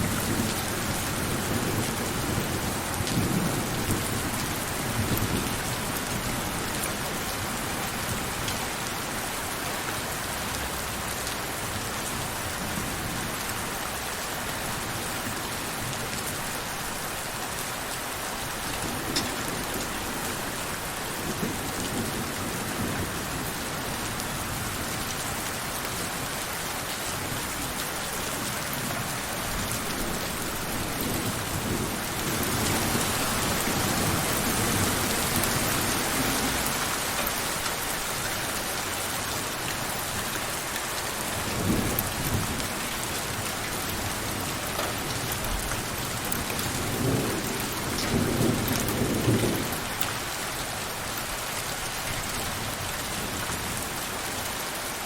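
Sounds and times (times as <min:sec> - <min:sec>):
individual raindrops: 0:00.0 - 0:23.1, 0:23.8 - 0:55.0
steady rain falling: 0:00.0 - 0:55.0.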